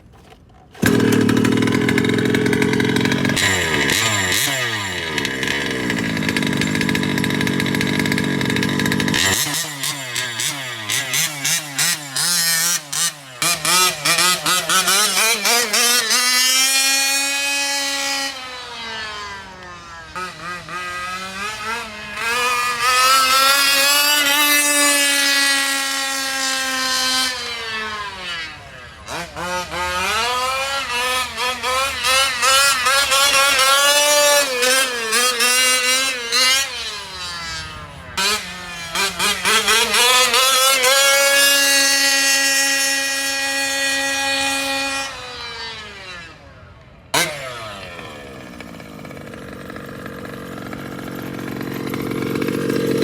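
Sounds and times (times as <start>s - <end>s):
two-stroke engine revving: 0.7s - 53.0s.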